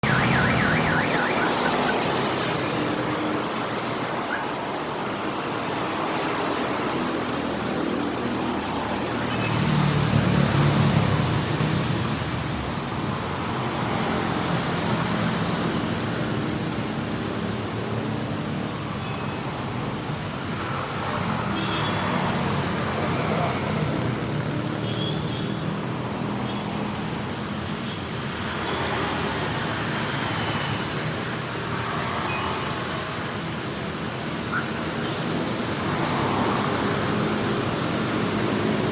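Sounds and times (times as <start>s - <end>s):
motorcycles and cars passing: 0.0s - 38.9s.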